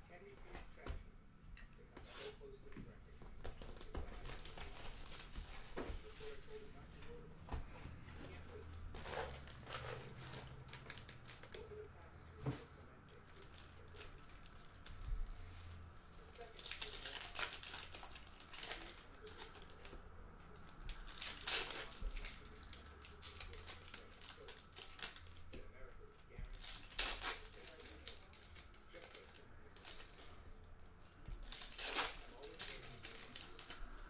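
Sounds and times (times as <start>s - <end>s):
foil wrappers crinkling and tearing: 3.6s - 6.6s, 8.2s - 15.4s, 16.2s - 30.4s, 31.0s - 34.0s.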